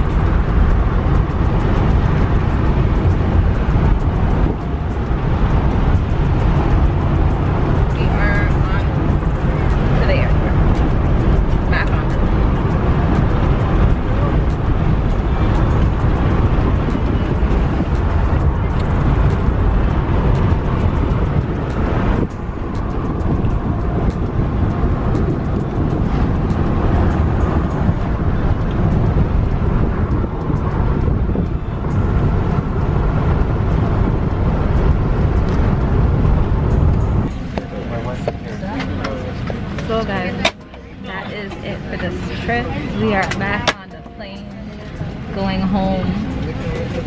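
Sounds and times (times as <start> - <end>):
road and wind noise in car: 0.0 - 47.0.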